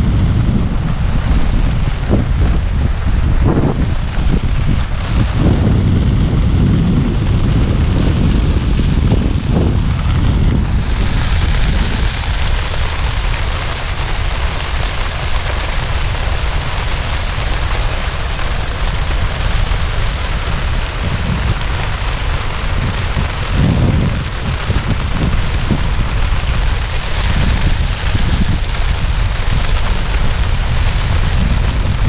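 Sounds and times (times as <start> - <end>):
steady hiss: 0.0 - 32.0
wind buffeting microphone: 0.0 - 32.0.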